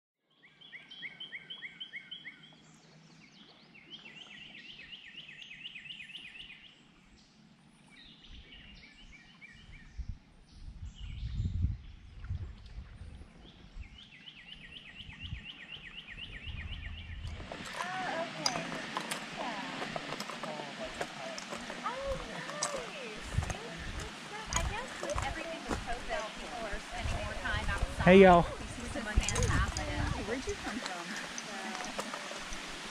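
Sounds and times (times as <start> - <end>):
songbird chirping: 0.2 - 12.4, 13.2 - 32.9
woodland ambience: 0.3 - 11.2, 13.2 - 32.9.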